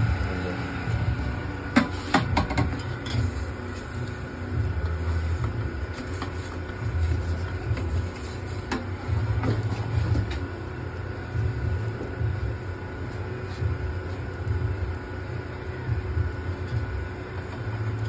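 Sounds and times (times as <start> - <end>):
faint constant whine: 0.0 - 18.0
low rumble of equipment: 0.0 - 18.0.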